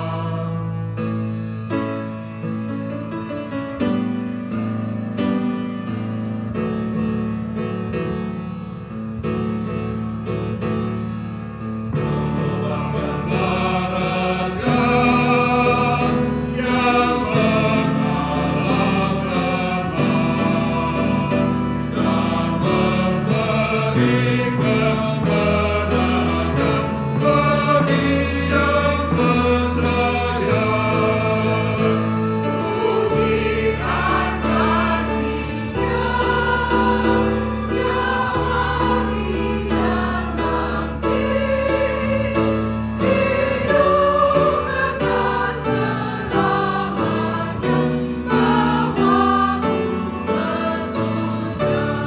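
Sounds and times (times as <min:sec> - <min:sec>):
choir singing a hymn: 0:00.0 - 0:52.0
keyboard accompaniment: 0:00.0 - 0:52.0.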